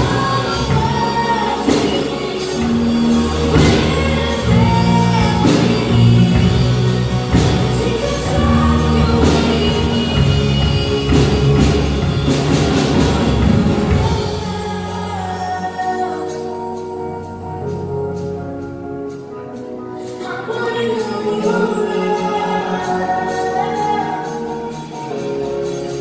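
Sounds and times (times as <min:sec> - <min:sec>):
people singing: 0:00.0 - 0:16.5, 0:20.2 - 0:25.8
live band playing: 0:00.0 - 0:26.0.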